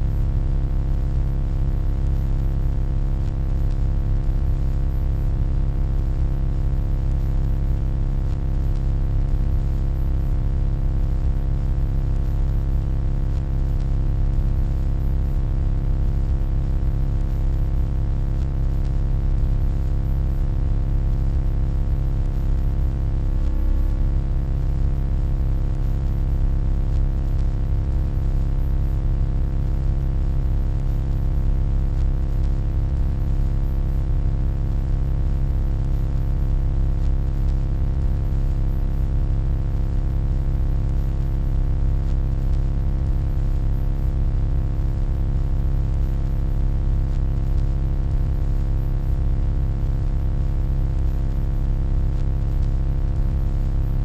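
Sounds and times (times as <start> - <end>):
electronic hum: 0.0 - 41.1, 42.1 - 46.1, 48.0 - 48.4, 50.6 - 51.2.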